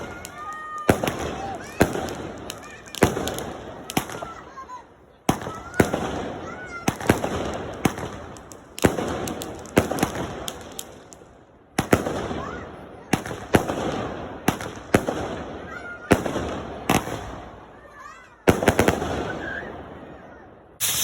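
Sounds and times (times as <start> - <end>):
fireworks banging and crackling: 0.0 - 21.0.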